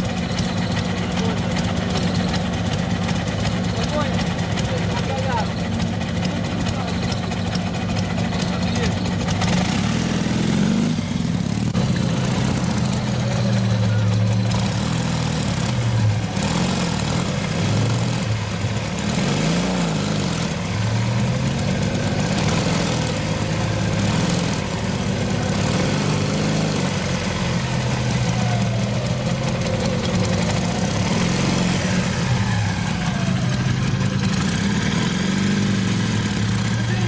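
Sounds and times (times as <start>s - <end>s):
motorcycle engine throttle blips: 0.0s - 37.0s.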